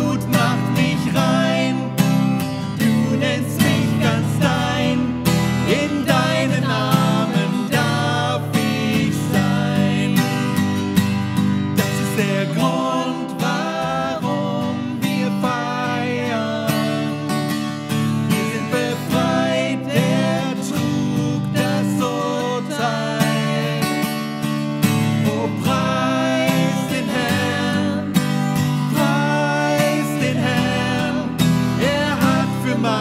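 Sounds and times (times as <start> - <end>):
man and woman singing: 0.0 - 10.6, 11.9 - 17.5, 18.3 - 24.2, 25.1 - 33.0
strummed acoustic guitar: 0.0 - 33.0.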